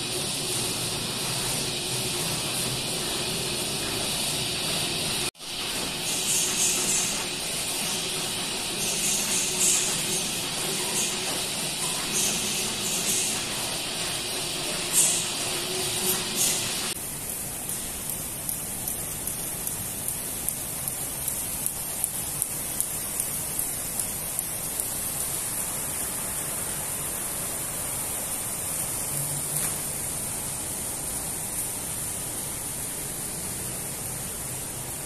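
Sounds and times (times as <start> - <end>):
steady rushing hiss: 0.0 - 35.0.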